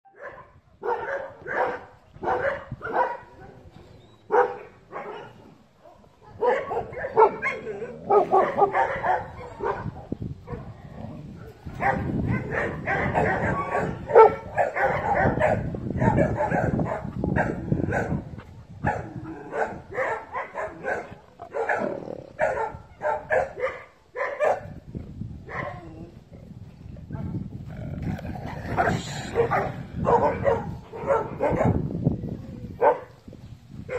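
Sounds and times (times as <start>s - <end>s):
dogs barking: 0.1s - 3.6s, 4.2s - 10.8s, 11.4s - 24.8s, 25.4s - 25.8s, 28.4s - 31.9s, 32.8s - 33.2s.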